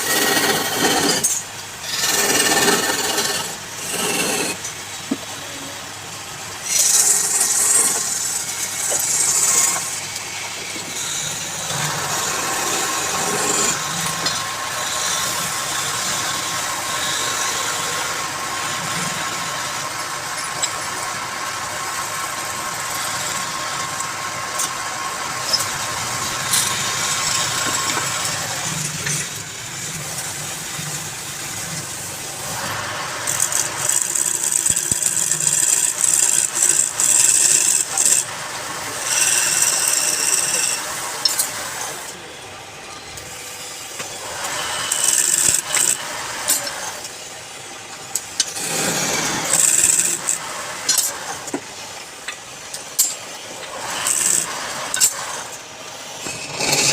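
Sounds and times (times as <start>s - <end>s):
tool scraping spinning wood: 0.0s - 5.7s, 6.5s - 42.4s, 43.8s - 47.4s, 48.0s - 56.9s
wood lathe motor running: 0.0s - 52.5s, 53.4s - 56.9s.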